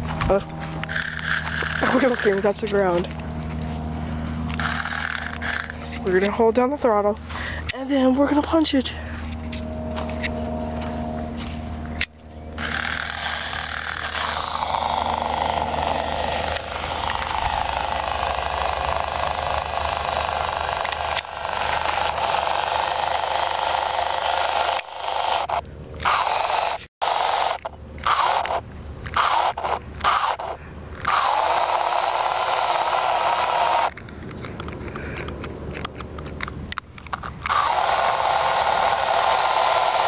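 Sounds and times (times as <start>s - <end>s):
wheels spinning in mud: 0.0s - 6.3s, 12.3s - 36.0s, 37.1s - 40.0s
electric motor whine: 0.0s - 40.0s.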